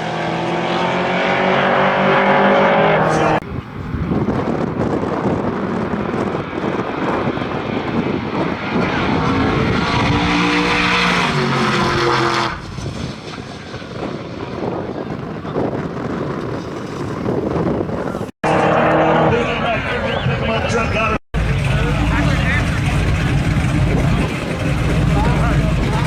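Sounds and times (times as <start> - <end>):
drag racing engines at full throttle: 0.0 - 26.0.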